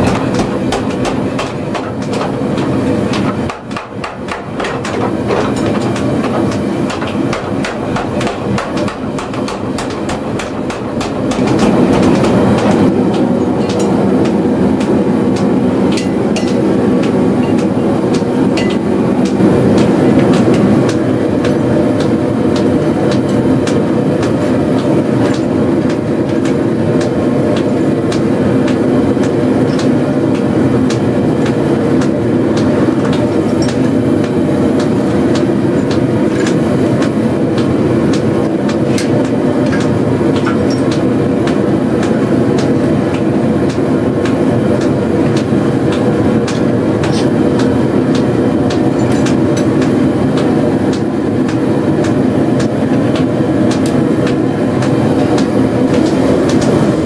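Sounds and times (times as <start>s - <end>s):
power hammer striking metal: 0.0s - 57.0s.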